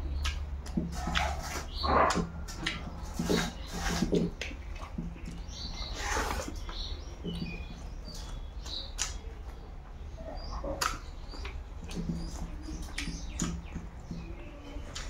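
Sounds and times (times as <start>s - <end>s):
person chewing and lip-smacking: 0.1s - 9.5s, 10.6s - 14.3s.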